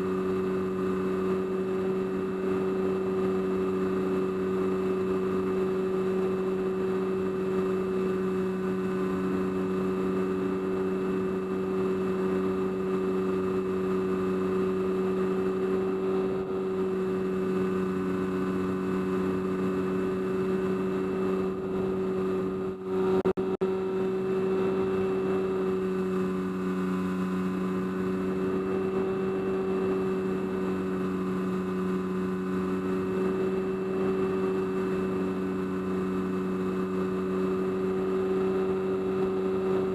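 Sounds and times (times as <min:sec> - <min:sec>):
model aircraft motor droning: 0:00.0 - 0:39.9.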